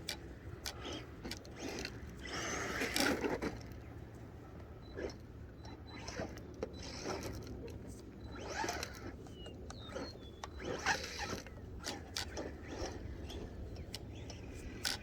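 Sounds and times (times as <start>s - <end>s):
faint motor whines: 0.0s - 15.0s.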